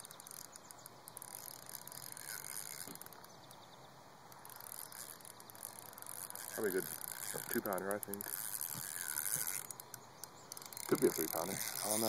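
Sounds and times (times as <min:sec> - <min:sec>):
fishing reel ticking: 0:00.0 - 0:12.0.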